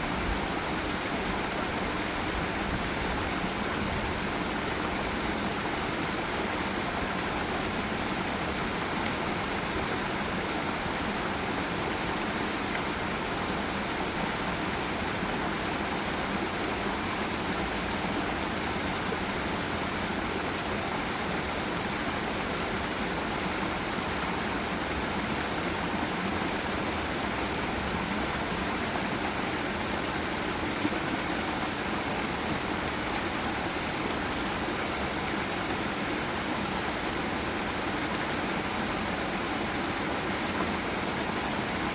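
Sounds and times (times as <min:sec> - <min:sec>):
river and waterfall rushing: 0:00.0 - 0:41.9.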